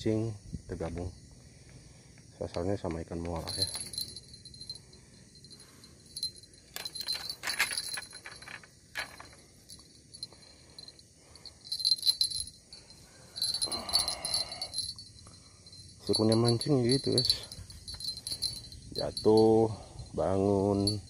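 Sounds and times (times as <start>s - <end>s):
high insect drone: 0.0s - 21.0s
bite-alarm bell jingling: 3.3s - 21.0s.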